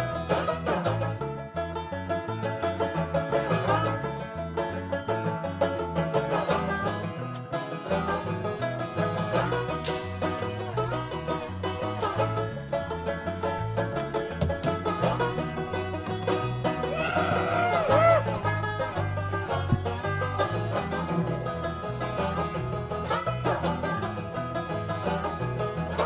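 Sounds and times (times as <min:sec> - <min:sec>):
fast banjo picking: 0:00.0 - 0:26.0
two-note bass line: 0:00.0 - 0:26.0.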